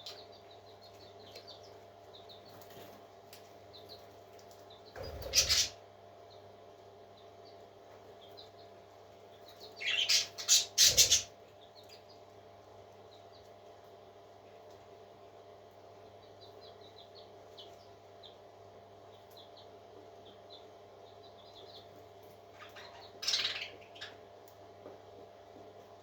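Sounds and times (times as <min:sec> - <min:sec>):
parrot chicks peeping: 0:00.0 - 0:26.0.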